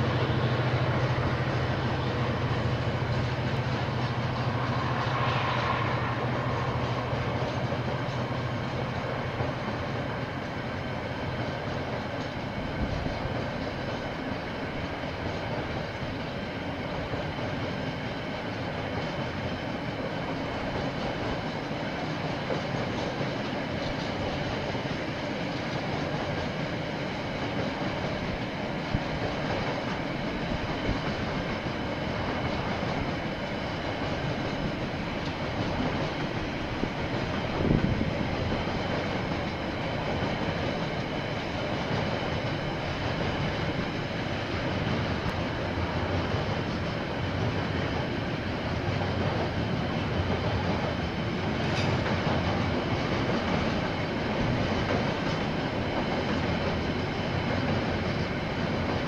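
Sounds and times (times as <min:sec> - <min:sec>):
freight train rolling past: 0:00.0 - 0:59.0
steel wheels rumbling on rails: 0:00.0 - 0:59.0.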